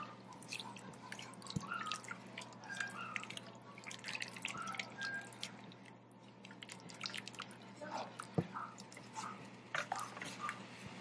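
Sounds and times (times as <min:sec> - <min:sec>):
whisk sloshing in sauce: 0:00.0 - 0:10.6.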